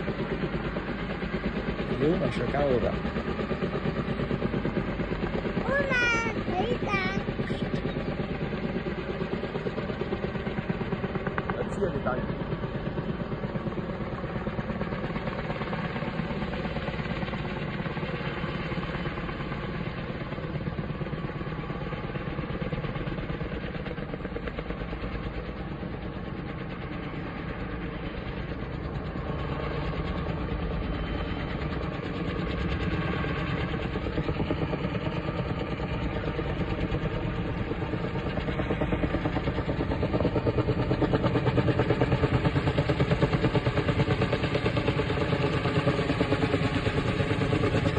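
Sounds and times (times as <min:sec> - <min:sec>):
helicopter rotor beat: 0:00.0 - 0:47.9.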